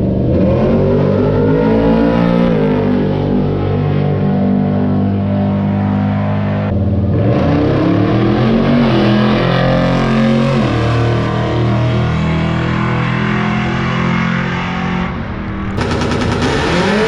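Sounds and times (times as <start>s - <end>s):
drag car engine accelerating: 0.0s - 17.0s.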